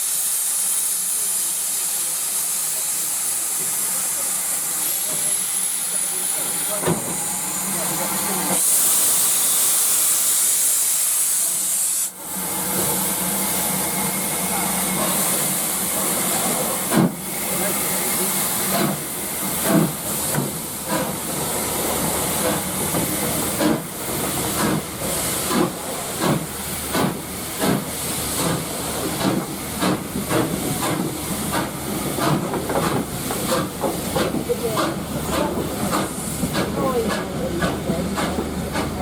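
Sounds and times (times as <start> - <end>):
steam hissing: 0.0 - 39.0
steam locomotive exhaust beats: 0.0 - 39.0.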